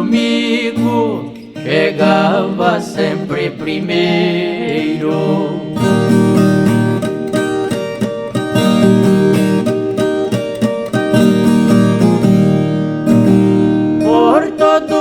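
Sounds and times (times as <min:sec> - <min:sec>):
person singing country song: 0:00.0 - 0:15.0
plucked and strummed guitar: 0:00.0 - 0:15.0.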